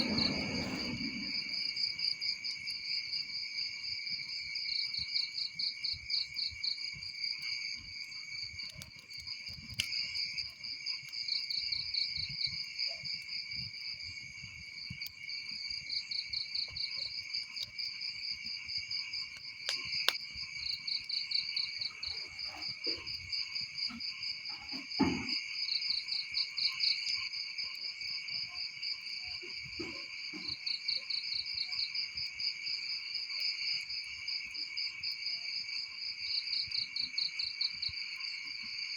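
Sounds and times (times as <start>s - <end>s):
crickets chirping: 0.0s - 38.9s
faint fire pops and crackles: 0.0s - 38.9s.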